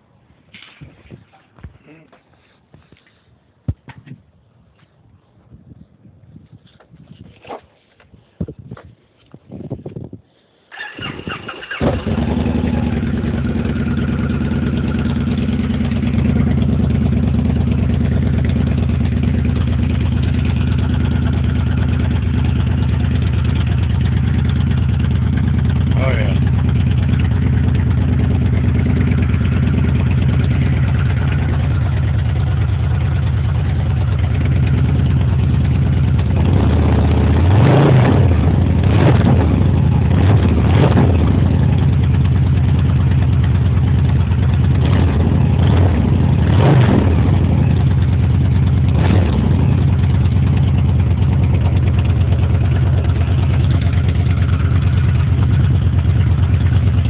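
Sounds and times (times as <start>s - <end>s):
motorcycle engine idling and blipping: 6.2s - 57.0s.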